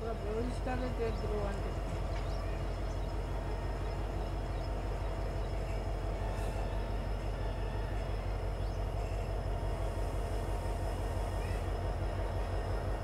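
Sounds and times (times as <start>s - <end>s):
train rumbling from aboard: 0.0s - 13.0s.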